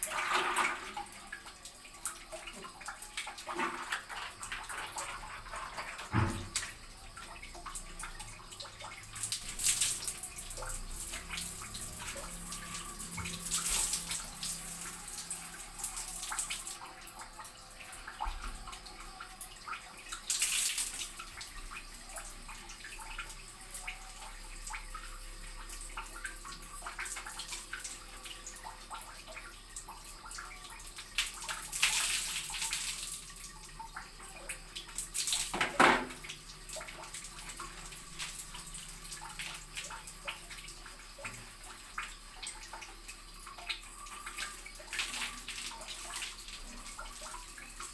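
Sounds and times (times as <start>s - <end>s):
water pouring over hair: 0.0s - 47.9s.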